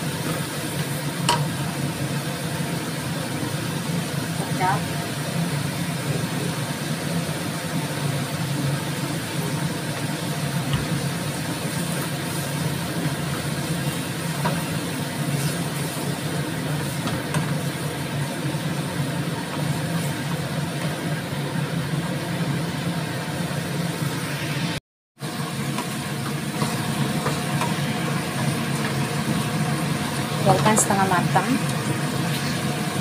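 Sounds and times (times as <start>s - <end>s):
vegetables sizzling in a pan: 0.0s - 33.0s.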